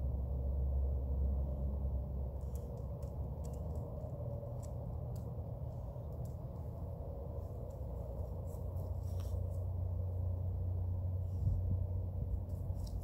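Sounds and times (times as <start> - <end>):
industrial machinery droning hum: 0.0 - 13.0.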